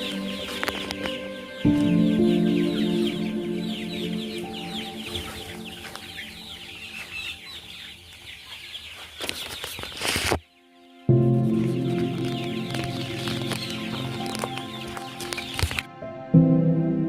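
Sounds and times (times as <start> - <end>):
chicks cheeping: 0.0 - 16.0.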